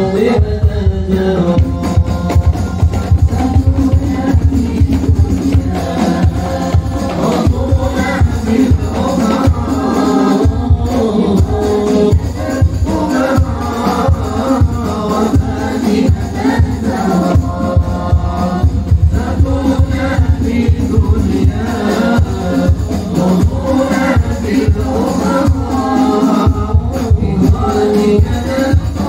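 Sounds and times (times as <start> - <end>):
hand percussion beat: 0.0 - 29.0
men singing into microphones: 0.0 - 29.0.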